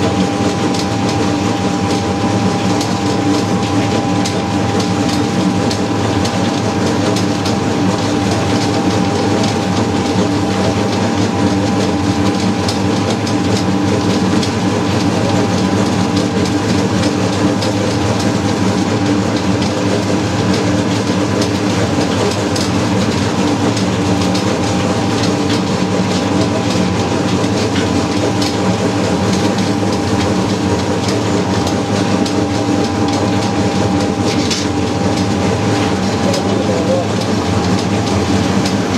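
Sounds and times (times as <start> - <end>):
grinding machine humming and rumbling: 0.0 - 38.9.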